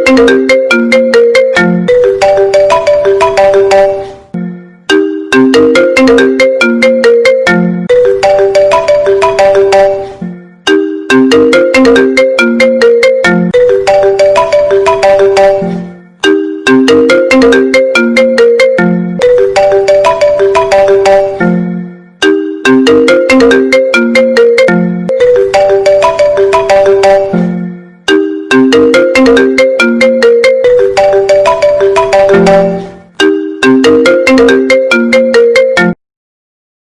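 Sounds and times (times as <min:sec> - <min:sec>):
phone ringtone melody: 0:00.0 - 0:36.0.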